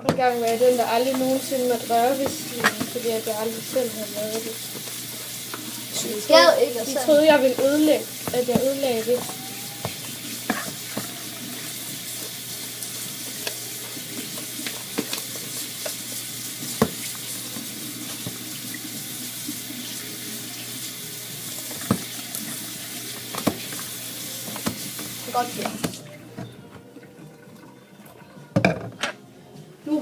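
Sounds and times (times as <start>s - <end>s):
water running from a tap: 0.1s - 26.2s.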